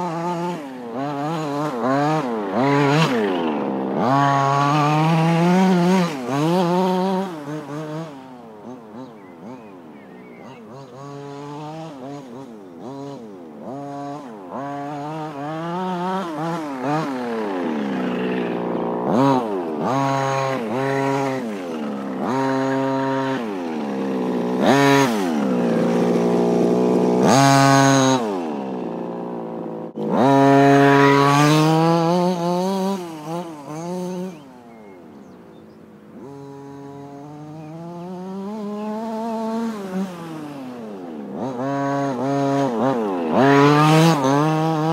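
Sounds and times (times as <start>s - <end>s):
two-stroke engine revving: 0.0s - 44.9s.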